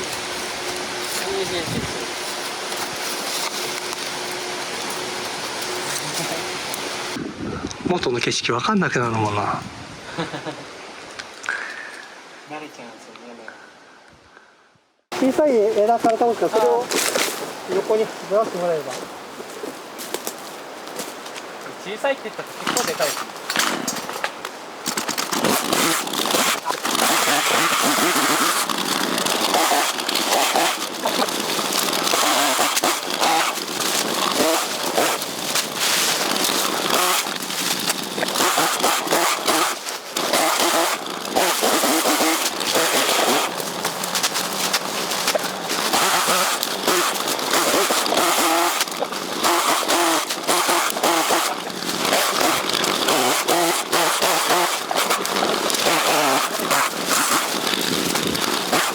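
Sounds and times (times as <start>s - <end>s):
chainsaw cutting bamboo: 0.0s - 7.2s, 15.1s - 19.2s, 22.5s - 58.9s.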